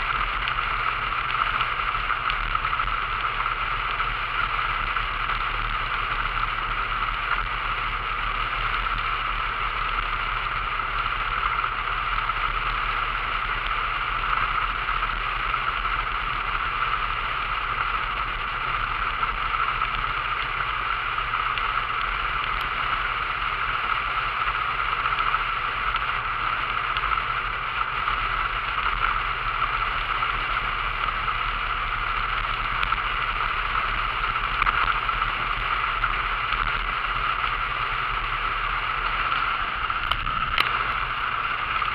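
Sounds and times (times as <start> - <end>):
low engine hum: 0.0 - 41.9
wind and road noise: 0.0 - 41.9.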